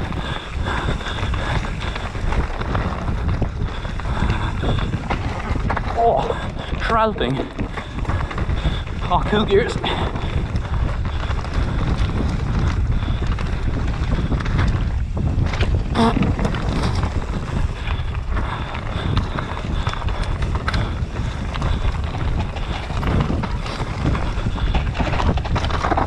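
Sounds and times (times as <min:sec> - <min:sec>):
bike knocks and rattles: 0:00.0 - 0:26.0
tyres rumbling on dirt: 0:00.0 - 0:26.0
wind over microphone: 0:00.0 - 0:26.0.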